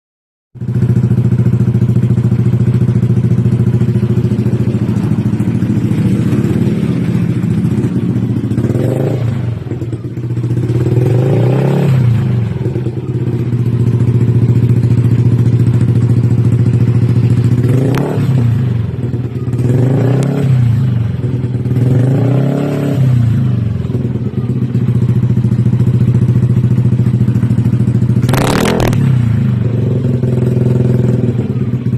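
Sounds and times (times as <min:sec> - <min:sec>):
scooter engine revving: 0:00.6 - 0:31.9.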